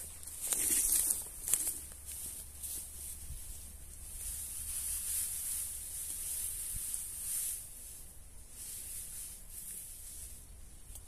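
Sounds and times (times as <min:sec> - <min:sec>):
dry grass rustling by hand: 0:00.0 - 0:11.0
steady high hiss: 0:00.0 - 0:11.0.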